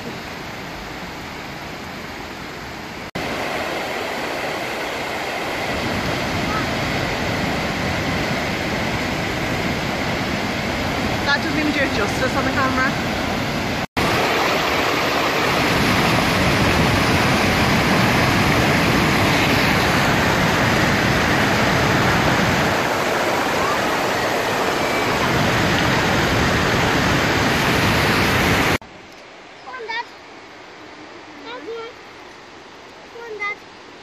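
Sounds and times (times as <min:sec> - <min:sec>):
waterfall rushing: 0:00.0 - 0:28.8.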